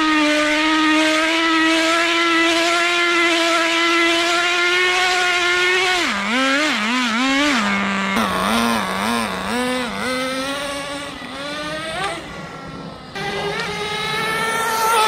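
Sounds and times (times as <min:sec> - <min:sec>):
small two-stroke engine revving: 0:00.0 - 0:15.0.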